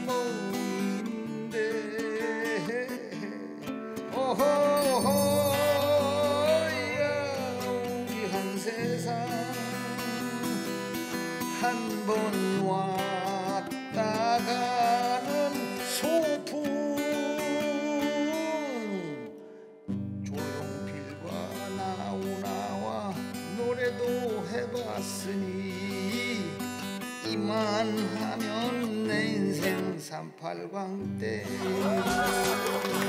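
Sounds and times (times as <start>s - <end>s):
person singing with vibrato: 0.0s - 19.6s, 20.3s - 33.0s
strummed acoustic guitar: 0.0s - 33.0s.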